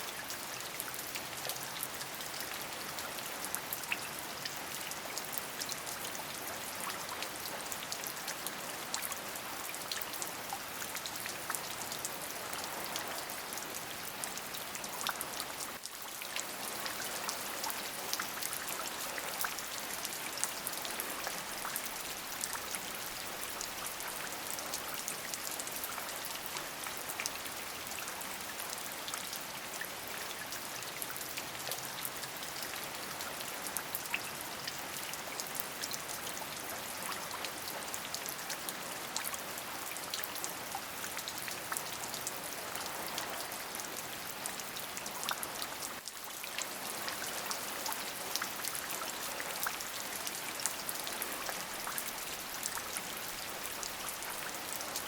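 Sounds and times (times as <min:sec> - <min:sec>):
raindrops ticking on a surface: 0:00.0 - 0:55.0
steady rain hissing: 0:00.0 - 0:55.0.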